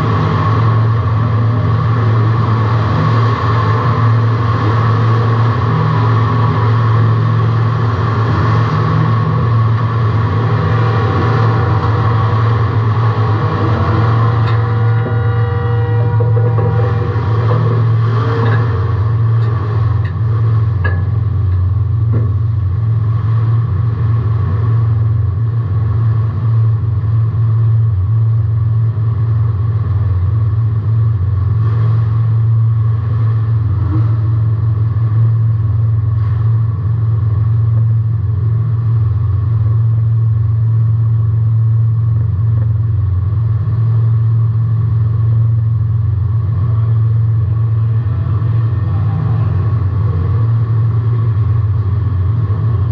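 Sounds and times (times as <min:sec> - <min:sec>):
car engine droning: 0:00.0 - 0:52.9.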